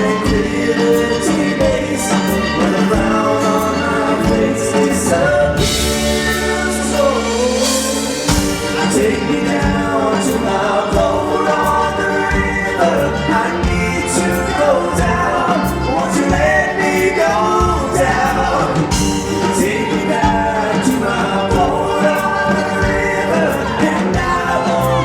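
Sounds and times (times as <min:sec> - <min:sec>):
backing vocal harmonies: 0:00.0 - 0:25.0
lead singer singing: 0:00.0 - 0:25.0.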